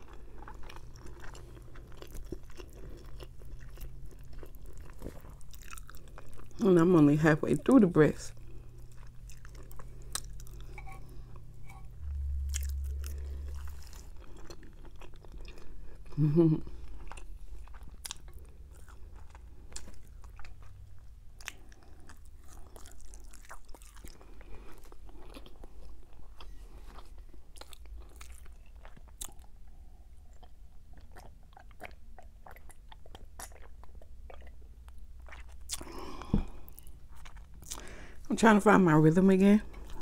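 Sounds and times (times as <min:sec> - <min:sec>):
chewing and mouth smacking: 0:00.0 - 0:06.6, 0:08.3 - 0:16.2, 0:16.8 - 0:37.9.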